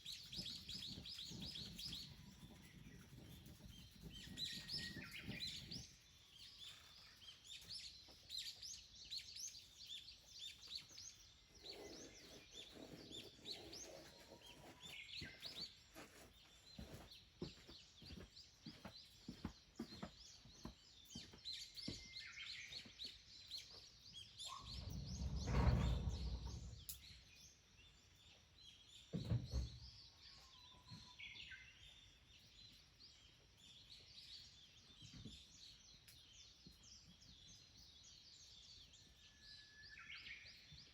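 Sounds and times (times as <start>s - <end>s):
birds chirping: 0.0s - 39.2s.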